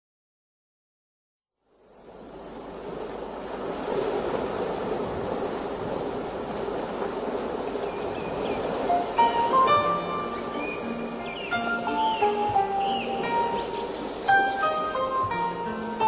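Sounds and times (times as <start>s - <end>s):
ocean waves washing: 1.8s - 16.0s.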